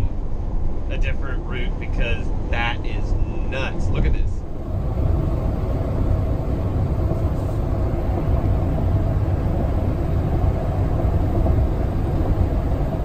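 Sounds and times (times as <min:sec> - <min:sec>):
faint steady hum: 0:00.0 - 0:13.0
van engine and tyre rumble: 0:00.0 - 0:13.0.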